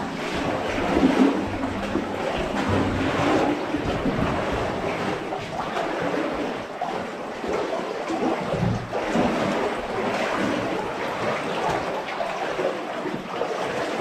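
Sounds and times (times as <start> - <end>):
water flowing and splashing: 0.0 - 14.0.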